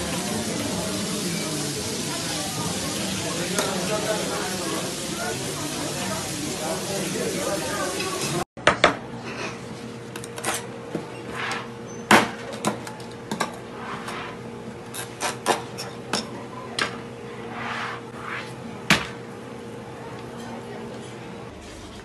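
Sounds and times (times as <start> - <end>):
steady kitchen hum: 0.0 - 22.0.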